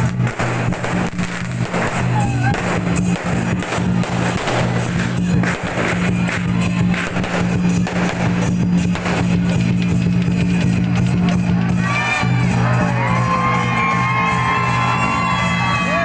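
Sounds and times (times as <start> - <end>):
low bass notes: 0.0 - 16.0.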